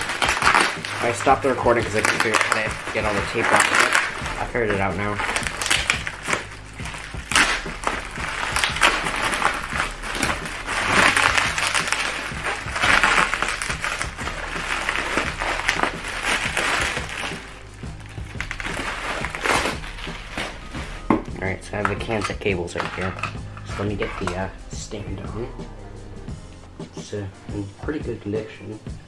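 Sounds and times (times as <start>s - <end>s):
bubble wrap crinkling and crackling: 0.0s - 25.5s.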